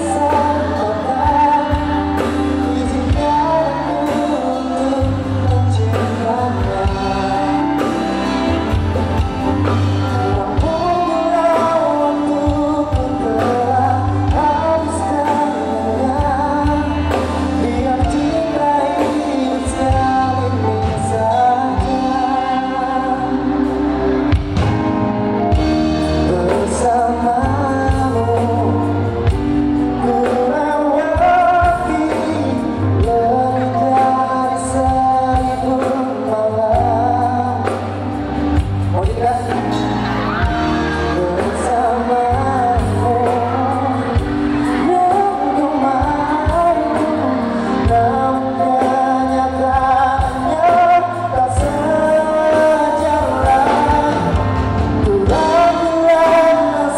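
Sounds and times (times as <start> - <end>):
live band playing: 0.0 - 56.9
man singing into microphone: 0.0 - 56.9.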